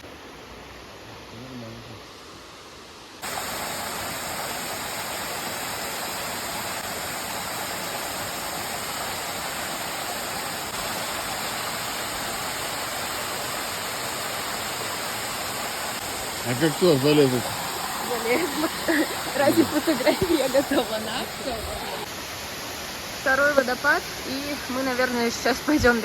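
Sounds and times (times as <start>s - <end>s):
waterfall rushing: 3.2s - 26.0s.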